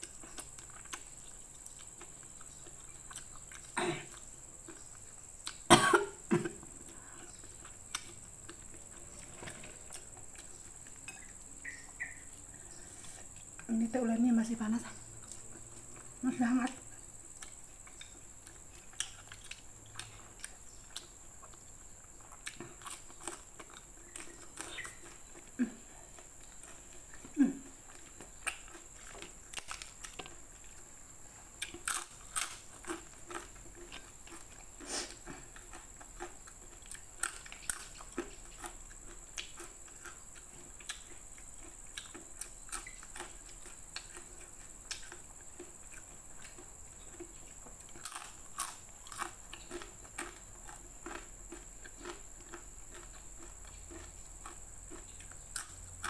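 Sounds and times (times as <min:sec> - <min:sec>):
crunching and chewing crackers: 0:00.0 - 0:13.7, 0:14.8 - 0:56.0.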